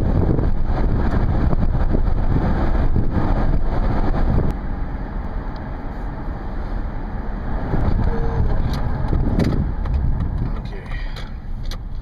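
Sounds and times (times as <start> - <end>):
low rumble of road traffic: 0.0 - 12.0
wind rushing over microphone: 0.0 - 12.0.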